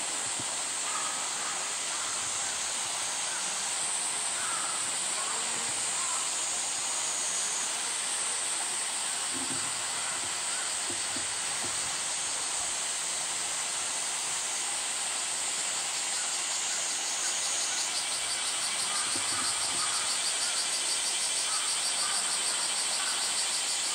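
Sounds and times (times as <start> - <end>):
cicadas chorus: 0.0 - 23.9.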